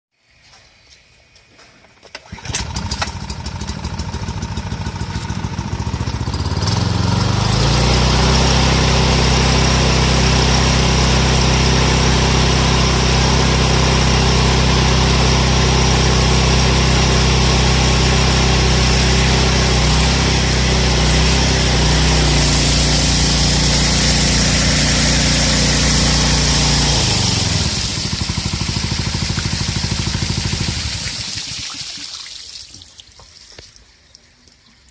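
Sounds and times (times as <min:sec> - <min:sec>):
water pump engine running: 0:02.2 - 0:32.3.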